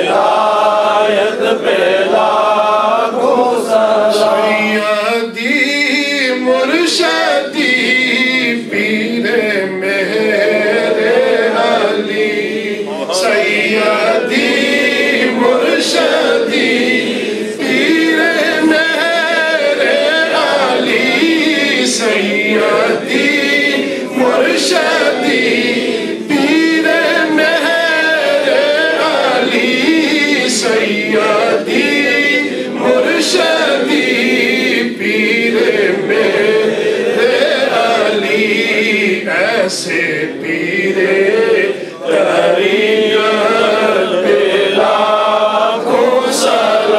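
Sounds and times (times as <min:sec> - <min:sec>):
men chanting in unison: 0:00.0 - 0:46.9.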